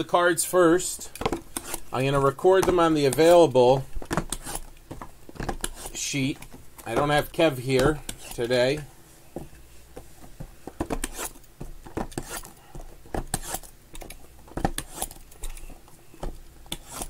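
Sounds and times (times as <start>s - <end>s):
cardboard boxes tapping and scraping: 1.1s - 8.6s, 9.3s - 17.0s.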